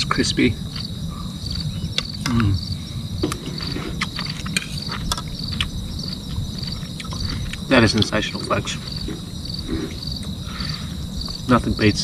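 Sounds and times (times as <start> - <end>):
high insect trill: 0.0 - 12.0
insects chirping: 0.0 - 12.0.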